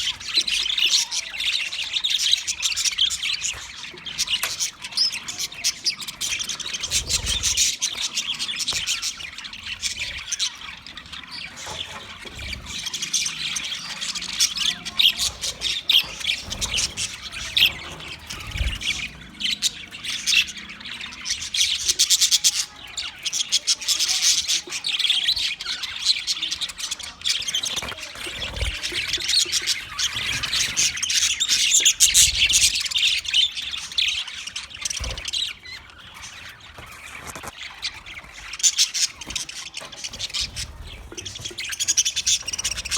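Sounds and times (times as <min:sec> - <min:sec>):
budgie chirping and chattering: 0:00.0 - 0:42.9.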